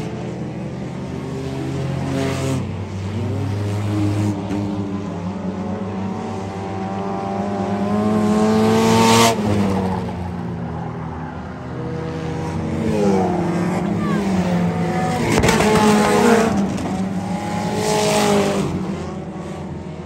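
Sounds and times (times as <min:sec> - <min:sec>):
race car engines: 0:00.0 - 0:20.0
race car passing close: 0:02.2 - 0:20.0.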